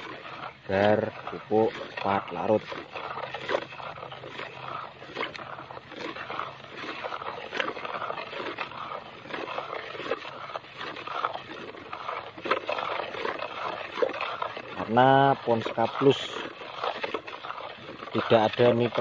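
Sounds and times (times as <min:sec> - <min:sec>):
stick scraping and knocking bucket: 0:00.0 - 0:19.0
water sloshing in bucket: 0:00.0 - 0:19.0.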